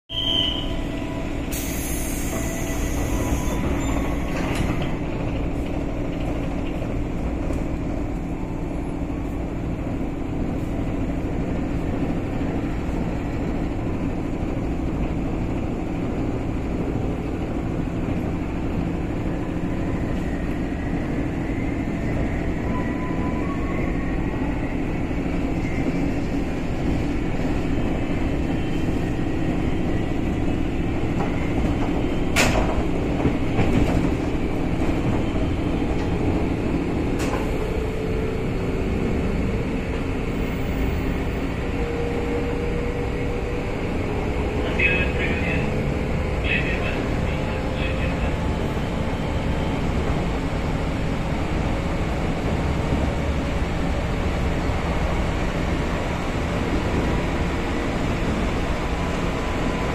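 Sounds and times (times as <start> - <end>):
train wheels and motors rumbling: 0.2 - 59.9.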